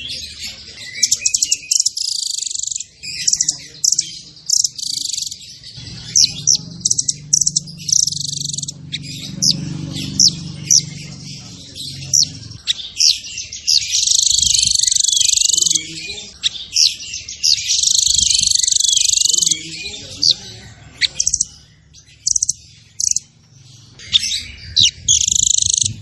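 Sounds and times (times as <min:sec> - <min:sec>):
songbird chirps and trills: 0:00.0 - 0:26.0.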